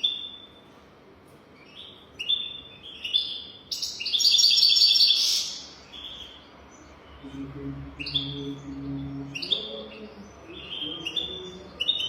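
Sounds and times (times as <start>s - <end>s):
goldfinch singing: 1.6s - 12.0s.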